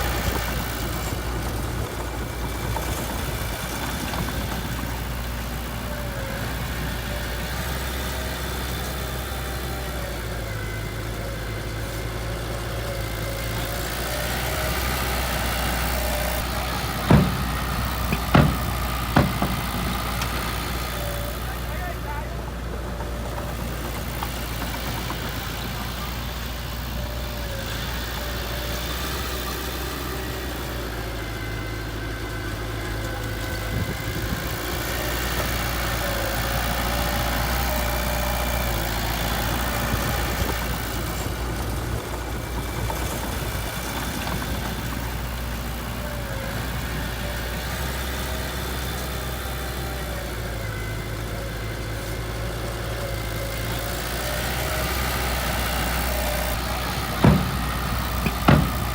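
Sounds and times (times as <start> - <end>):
earthmoving equipment diesel engine: 0.0 - 58.9.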